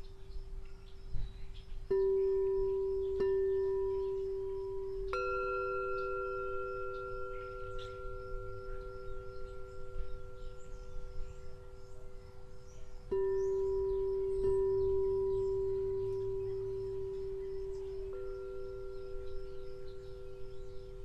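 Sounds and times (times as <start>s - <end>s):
singing bowls ringing: 1.8s - 21.0s.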